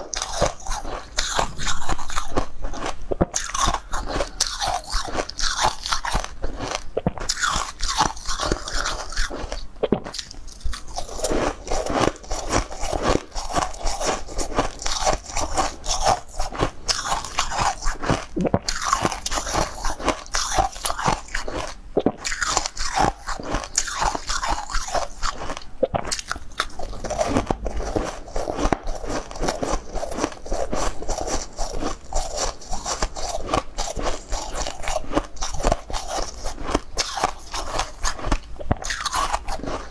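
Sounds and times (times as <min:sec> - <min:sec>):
crisp crunching while chewing: 0:00.0 - 0:39.9.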